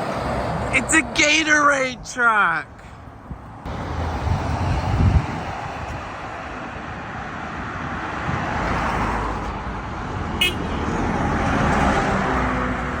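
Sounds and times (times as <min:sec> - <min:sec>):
vehicles driving past: 0:00.0 - 0:13.0.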